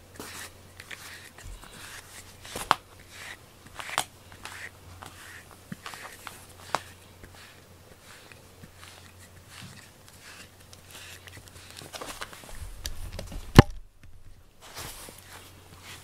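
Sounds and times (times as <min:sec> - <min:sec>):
brush stroking through cat fur: 0:00.0 - 0:13.0, 0:14.6 - 0:16.0.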